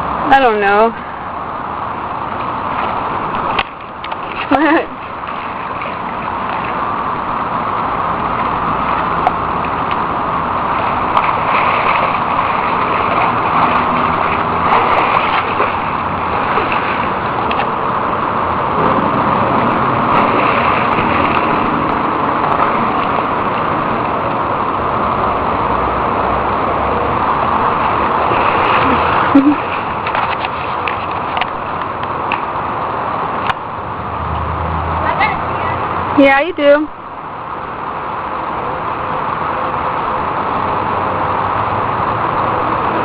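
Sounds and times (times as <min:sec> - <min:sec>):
running water rushing: 0:00.0 - 0:43.0.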